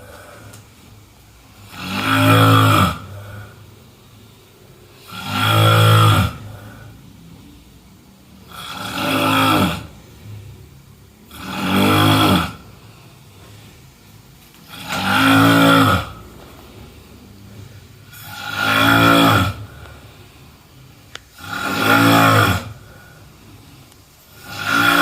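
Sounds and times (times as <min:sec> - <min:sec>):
person snoring loudly: 0:01.5 - 0:07.2, 0:08.4 - 0:10.5, 0:11.2 - 0:13.6, 0:14.6 - 0:25.0.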